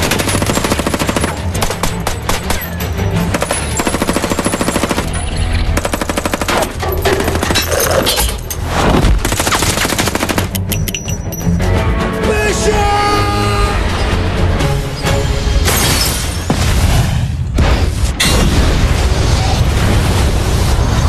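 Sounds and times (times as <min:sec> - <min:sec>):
low film score: 0:00.0 - 0:21.0.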